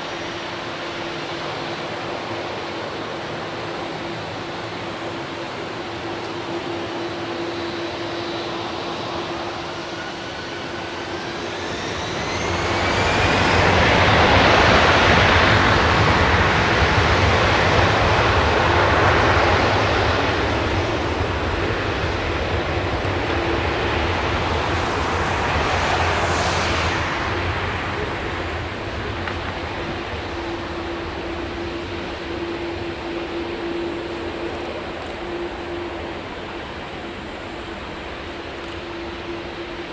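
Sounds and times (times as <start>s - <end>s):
jet engine whine: 0.0s - 39.9s
jet engines roaring: 0.0s - 39.9s.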